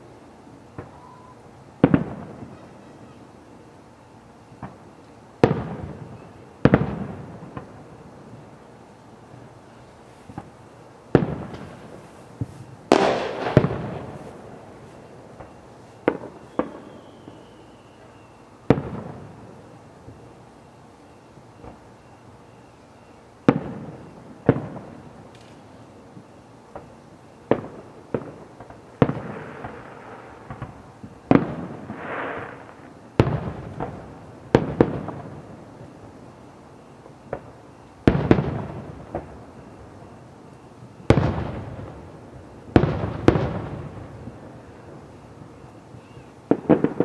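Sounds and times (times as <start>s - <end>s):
fireworks booming: 0.0s - 3.4s, 4.4s - 20.3s, 23.4s - 47.0s
fireworks rushing burst: 4.5s - 20.3s, 23.4s - 47.0s.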